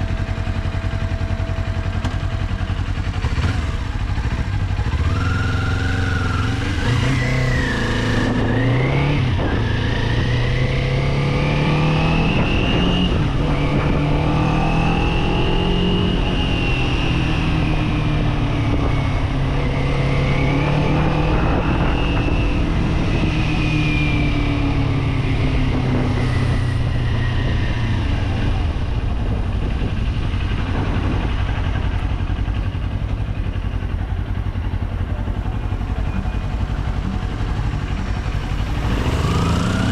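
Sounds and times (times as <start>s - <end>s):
motorcycle engine riding: 0.0s - 39.9s
wind and road noise: 0.0s - 39.9s.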